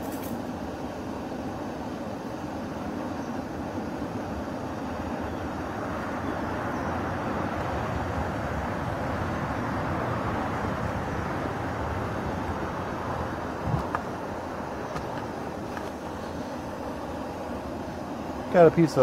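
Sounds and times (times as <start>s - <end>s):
stove burner hissing: 0.0s - 19.0s.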